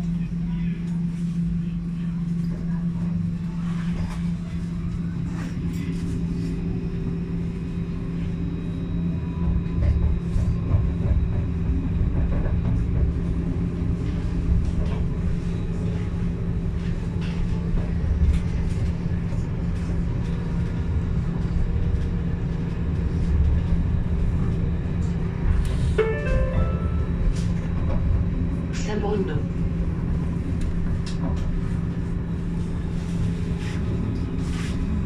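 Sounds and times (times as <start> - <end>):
tram electric hum: 0.0 - 35.0
wheel-on-rail rumble: 0.5 - 35.0.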